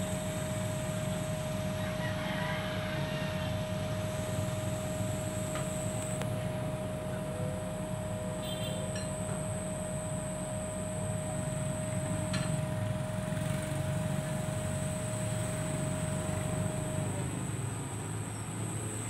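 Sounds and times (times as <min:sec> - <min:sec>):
high-pitched whine: 0:00.0 - 0:19.0
vehicle engine rumbling: 0:00.0 - 0:19.0.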